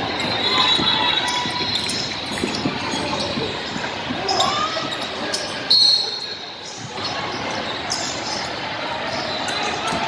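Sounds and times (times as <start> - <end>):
sneakers squeaking: 0.0 - 10.0.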